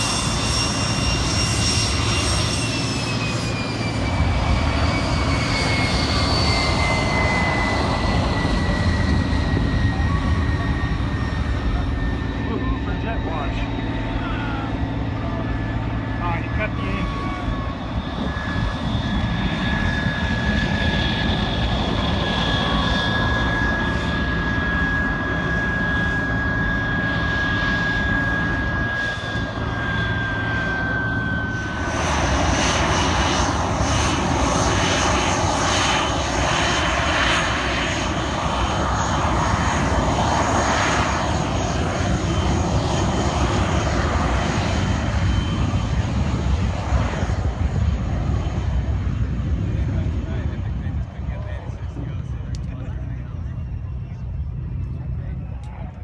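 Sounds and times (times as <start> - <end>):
aircraft engine whining: 0.0 - 56.0.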